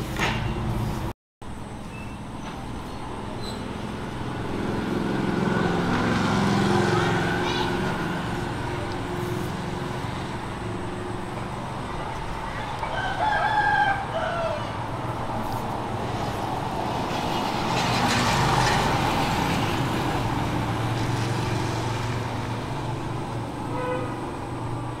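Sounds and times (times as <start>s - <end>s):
low traffic hum: 0.0s - 25.0s
vehicle passing: 2.6s - 25.0s.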